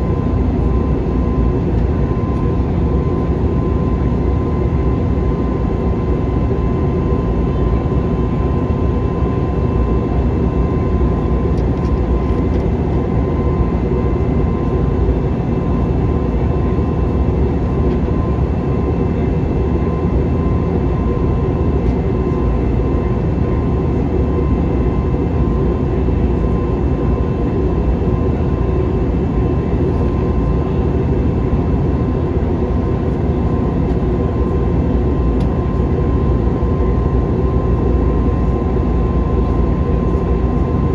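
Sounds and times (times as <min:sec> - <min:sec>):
jet engine and airflow rush: 0:00.0 - 0:40.9.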